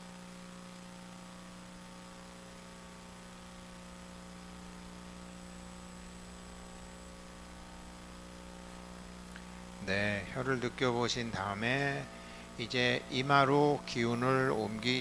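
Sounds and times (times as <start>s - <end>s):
faint mains hum: 0.0s - 15.0s
light hiss: 0.0s - 15.0s.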